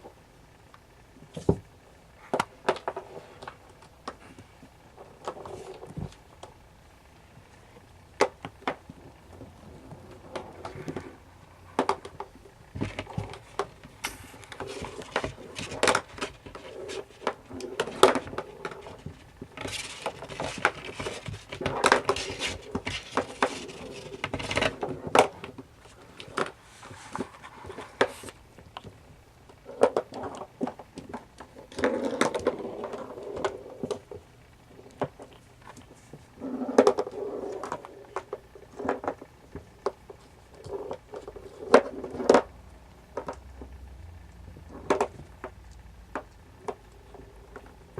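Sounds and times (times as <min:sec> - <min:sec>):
kittens scuffling and tapping: 0:01.2 - 0:06.6, 0:07.2 - 0:47.9.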